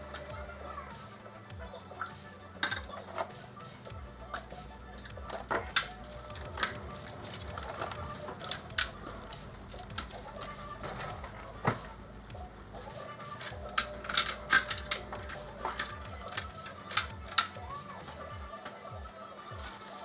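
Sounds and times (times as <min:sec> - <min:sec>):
jars clicking and knocking: 0:01.6 - 0:18.8.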